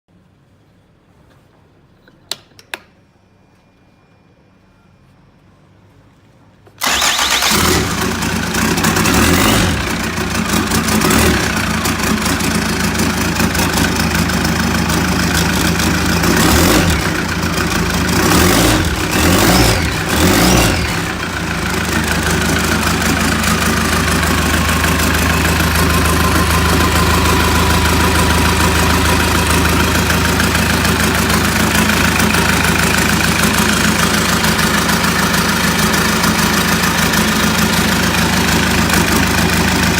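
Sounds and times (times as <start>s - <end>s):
diesel engine starting and revving: 6.8s - 39.9s.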